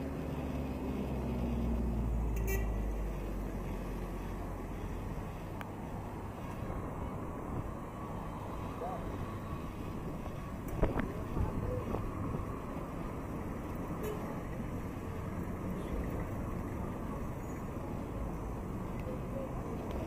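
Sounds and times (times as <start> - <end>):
passing cars rumble: 0.0 - 20.0.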